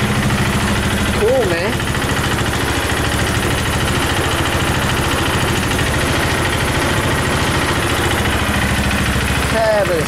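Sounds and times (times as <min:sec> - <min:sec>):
go-kart engine idling: 0:00.0 - 0:10.0.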